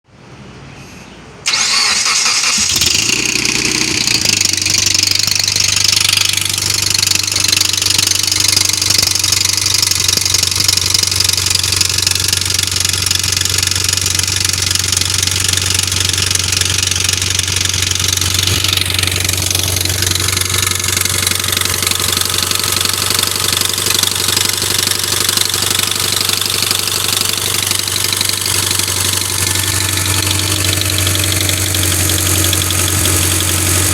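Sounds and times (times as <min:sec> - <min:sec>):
car engine starting: 0:01.4 - 0:33.9
engine idling with knocking rattle: 0:01.5 - 0:33.9.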